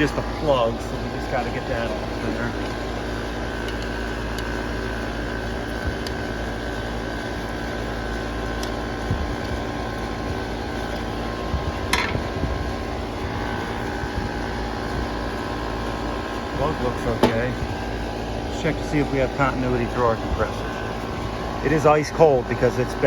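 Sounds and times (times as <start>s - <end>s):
air conditioning unit humming: 0.0s - 23.0s.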